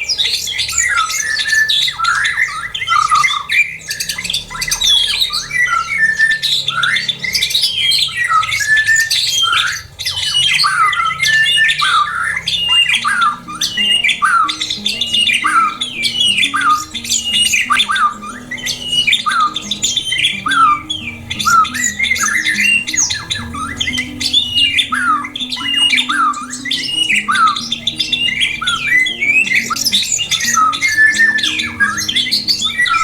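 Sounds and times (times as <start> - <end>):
songbirds calling and singing: 0.0 - 33.0
soft background music: 0.8 - 9.7, 10.3 - 33.0.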